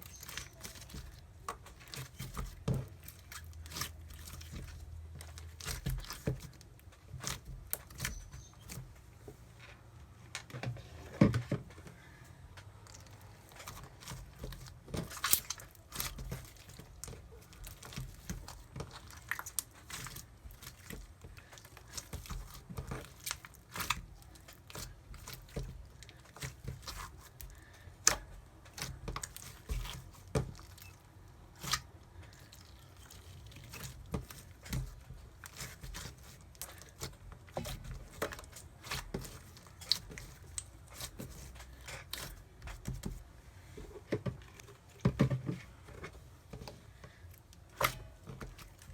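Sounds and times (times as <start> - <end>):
slime clicking and crackling: 0.0 - 8.8, 12.8 - 43.2.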